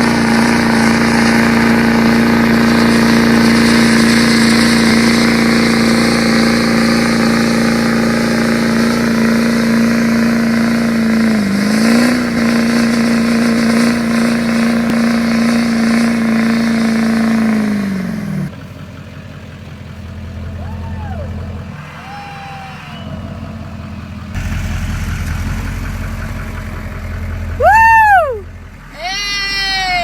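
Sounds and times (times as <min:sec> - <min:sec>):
diesel engine revving high: 0:00.0 - 0:30.0.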